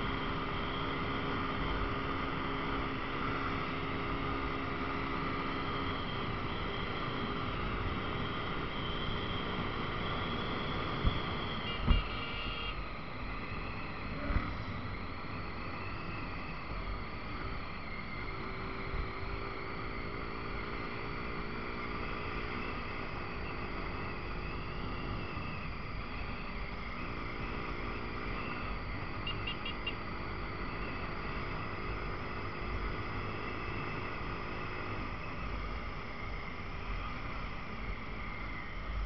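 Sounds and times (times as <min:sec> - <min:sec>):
wind and road noise: 0:00.0 - 0:39.0.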